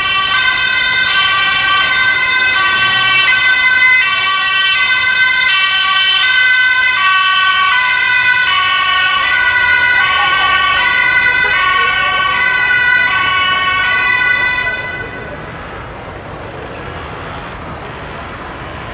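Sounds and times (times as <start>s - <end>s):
two-tone siren: 0.0s - 15.8s.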